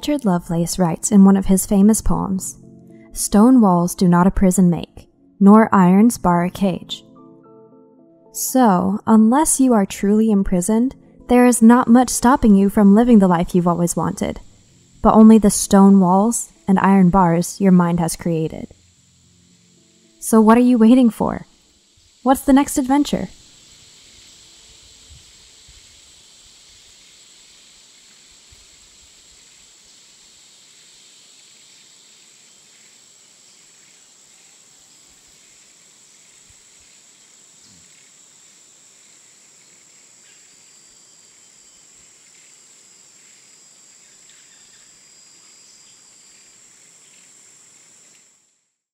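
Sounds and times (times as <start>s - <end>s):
insect chorus drone: 0.0s - 4.9s, 8.4s - 48.6s.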